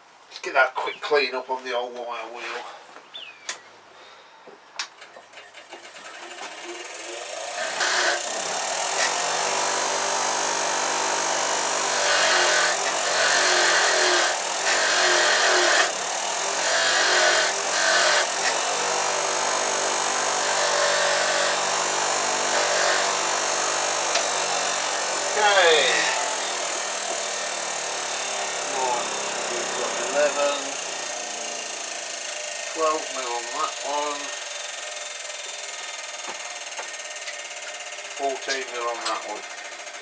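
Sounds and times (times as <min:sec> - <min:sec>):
bench grinder wire wheel spinning: 0:05.2 - 0:40.0.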